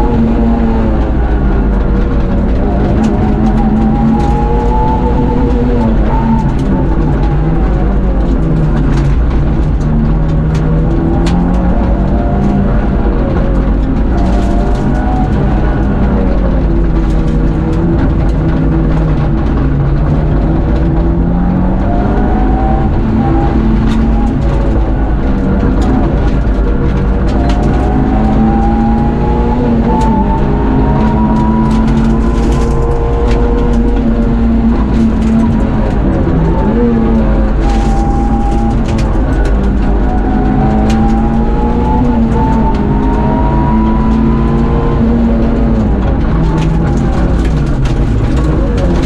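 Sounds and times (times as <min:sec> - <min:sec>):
rally car engine revving: 0:00.0 - 0:49.0
road and drivetrain noise: 0:00.0 - 0:49.0.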